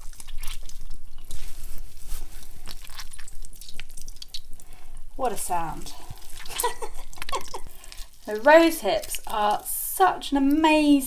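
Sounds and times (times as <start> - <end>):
juice dripping into saucepan: 0.0 - 10.7
wet squelching cloth: 0.0 - 11.0.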